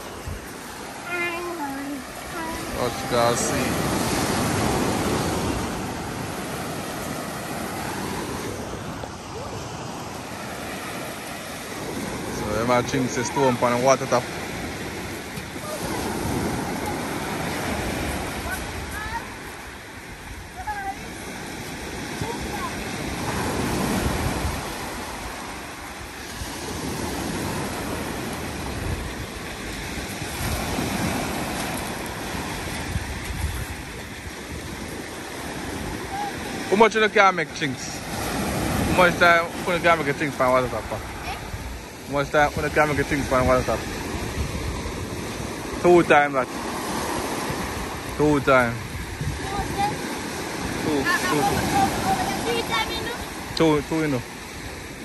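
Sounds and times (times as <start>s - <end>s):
river rushing over shingle: 0.0s - 55.0s
sea surf breaking: 0.0s - 55.0s
wind buffeting microphone: 0.0s - 55.0s.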